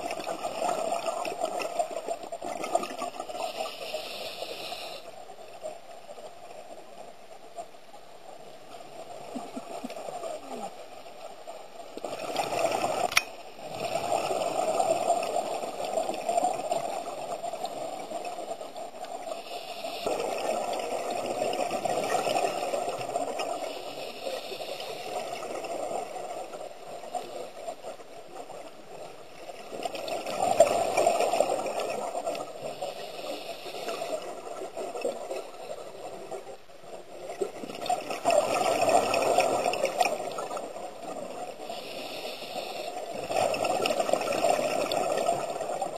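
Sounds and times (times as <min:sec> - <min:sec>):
regulator bubbles gurgling underwater: 0:08.7 - 0:45.9.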